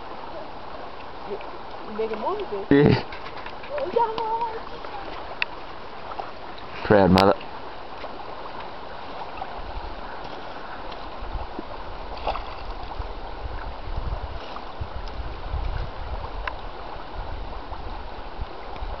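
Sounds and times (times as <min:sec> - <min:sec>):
water rushing over stones: 0:00.0 - 0:19.0
wind rumble on microphone: 0:00.0 - 0:19.0.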